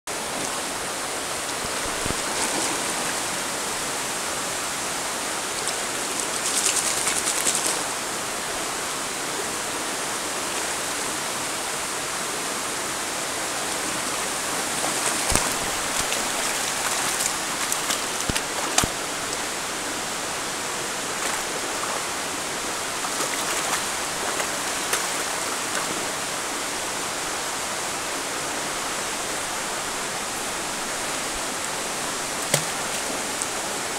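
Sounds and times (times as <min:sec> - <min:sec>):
stream running over pebbles: 0:00.1 - 0:09.0, 0:13.6 - 0:33.9.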